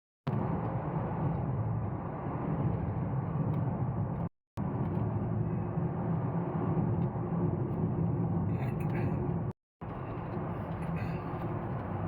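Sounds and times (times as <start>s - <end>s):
vehicle engine and road noise: 0.3s - 12.0s.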